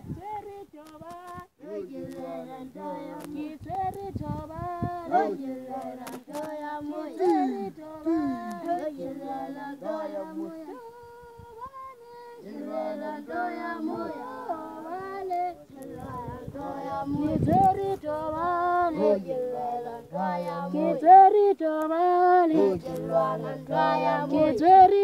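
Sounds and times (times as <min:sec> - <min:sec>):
group singing a chant: 0:01.6 - 0:25.0.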